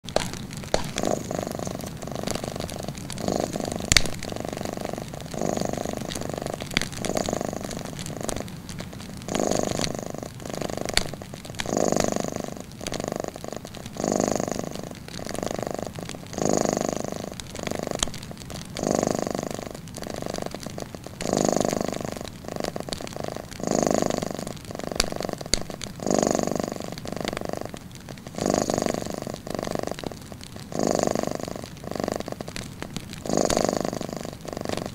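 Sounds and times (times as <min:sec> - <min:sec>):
cat purring: 0:00.0 - 0:34.9
wood fire crackling and popping: 0:00.0 - 0:34.9.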